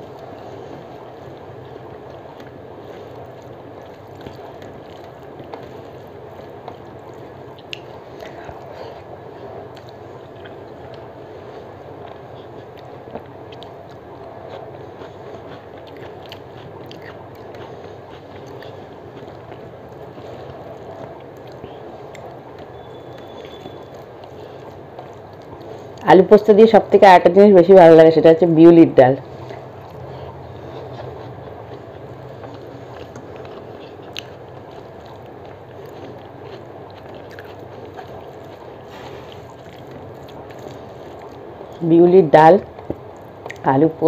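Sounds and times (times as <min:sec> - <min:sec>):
steady background noise: 0:00.0 - 0:44.0
fingers squishing wet food: 0:00.1 - 0:26.0, 0:29.3 - 0:41.9, 0:42.6 - 0:43.7.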